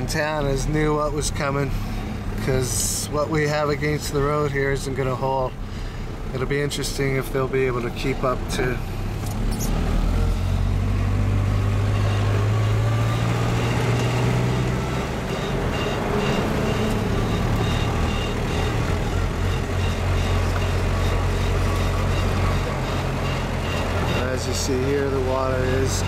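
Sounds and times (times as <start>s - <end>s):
car engine hum and road noise: 0.0s - 26.0s.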